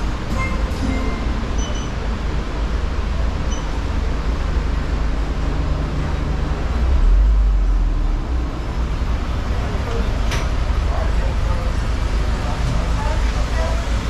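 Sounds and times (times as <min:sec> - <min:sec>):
trolley engine idling: 0:00.0 - 0:14.0.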